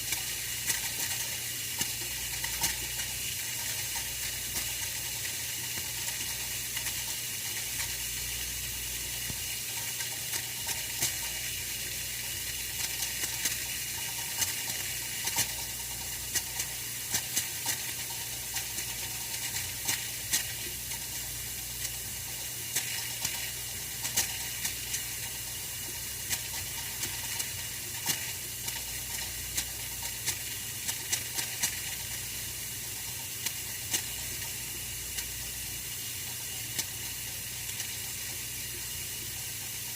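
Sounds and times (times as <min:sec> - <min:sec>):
radiator heater hiss and hum: 0:00.0 - 0:39.9.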